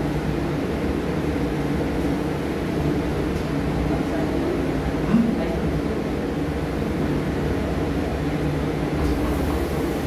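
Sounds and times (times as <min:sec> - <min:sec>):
lift mechanical hum and whir: 0:00.0 - 0:10.0.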